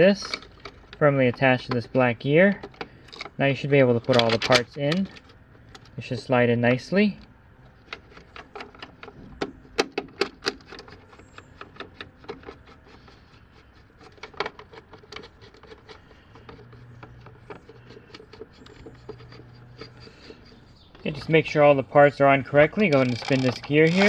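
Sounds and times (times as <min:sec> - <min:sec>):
plastic parts clicking and knocking: 0:00.0 - 0:06.2, 0:07.6 - 0:21.3, 0:22.7 - 0:24.0
plastic parts rubbing: 0:00.0 - 0:06.3, 0:07.6 - 0:24.0.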